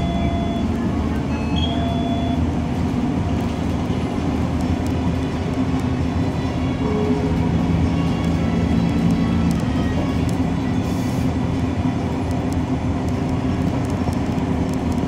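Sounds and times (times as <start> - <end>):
bus engine drone and road noise: 0.0 - 15.0.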